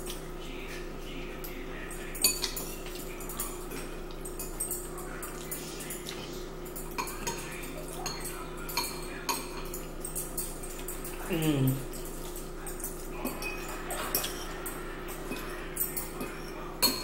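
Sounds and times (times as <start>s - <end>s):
forks clinking on ceramic bowls: 0.0s - 17.0s
steady low hum: 0.0s - 17.0s.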